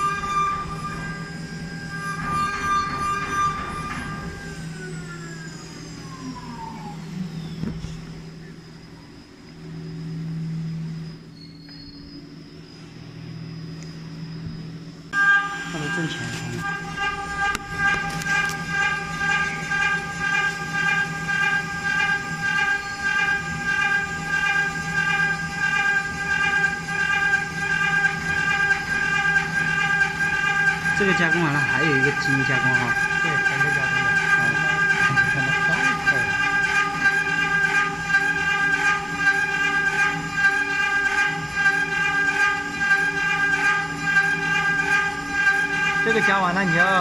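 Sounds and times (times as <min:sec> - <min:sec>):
milling spindle hum and whine: 0:00.0 - 0:47.0.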